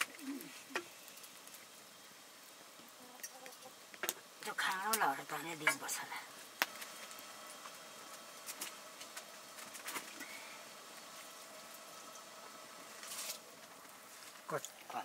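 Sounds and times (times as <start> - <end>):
food simmering in a pot: 0.0 - 15.0.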